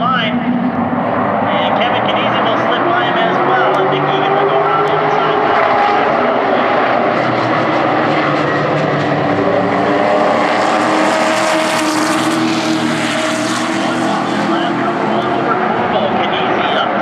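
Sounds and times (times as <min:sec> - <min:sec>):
race truck engines droning: 0:00.0 - 0:17.0.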